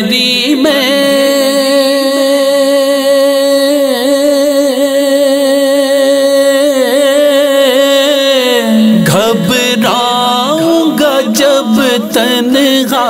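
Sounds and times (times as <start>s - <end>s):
man singing without instruments: 0.0s - 13.0s.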